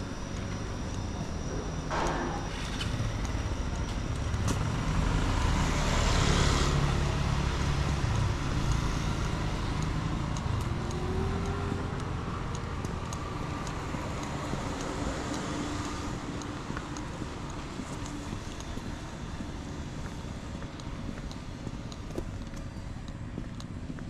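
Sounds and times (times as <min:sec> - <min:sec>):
low rumble of road noise: 0:00.0 - 0:24.0.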